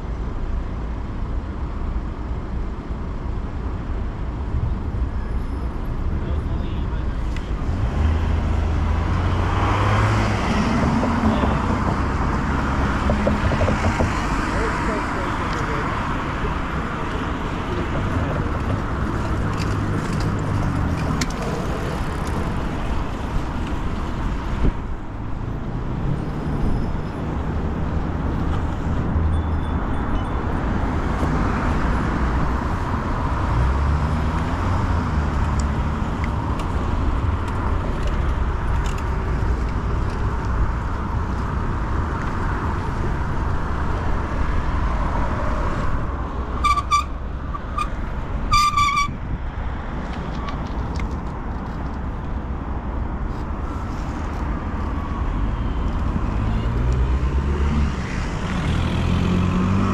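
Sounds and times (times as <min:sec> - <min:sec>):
tyre and road noise: 0:00.0 - 0:59.9
cars passing: 0:02.8 - 0:59.9.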